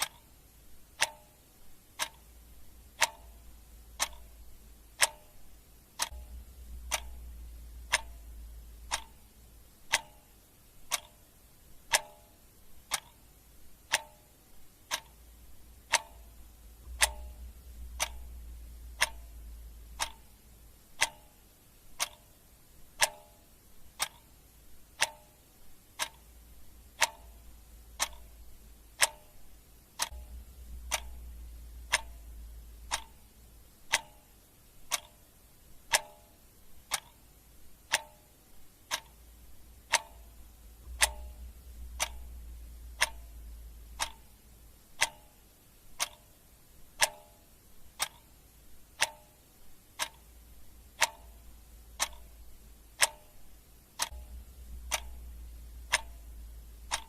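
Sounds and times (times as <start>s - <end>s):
clock ticking: 0.0s - 57.0s
faint low hum: 0.0s - 57.0s.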